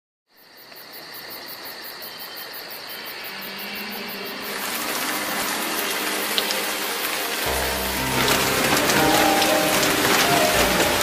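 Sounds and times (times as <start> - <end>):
insects chirping and trilling: 0.3 - 11.0
constant hiss: 1.3 - 11.0.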